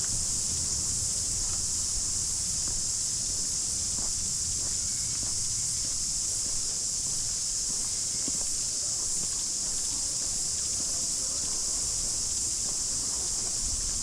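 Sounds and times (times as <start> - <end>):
cicadas chorus: 0.0 - 14.0
footsteps on garden path: 1.3 - 14.0.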